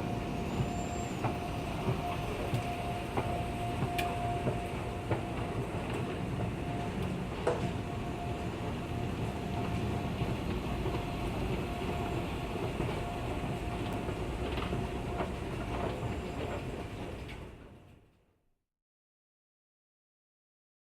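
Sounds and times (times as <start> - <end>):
escalator rumbling: 0.0 - 17.7.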